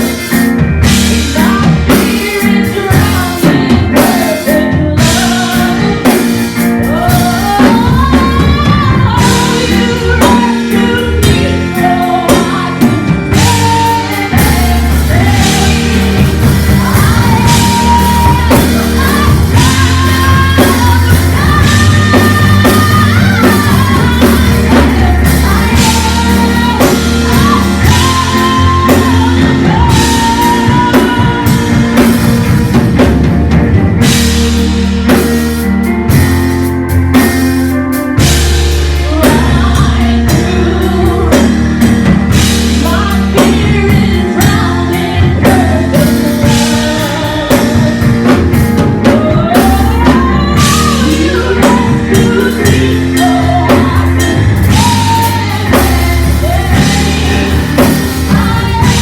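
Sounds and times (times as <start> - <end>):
people singing worship music: 0.0 - 37.4, 38.1 - 59.0
band with drum kit: 0.0 - 59.0.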